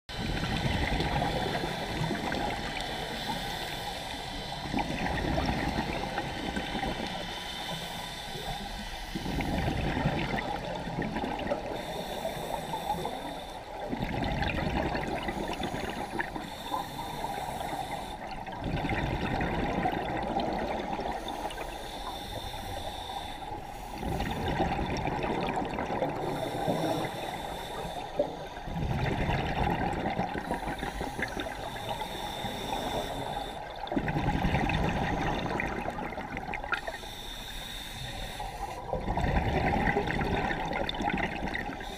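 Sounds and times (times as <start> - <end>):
regulator bubbles underwater: 0.1 - 41.9
steady water hiss: 0.1 - 41.9.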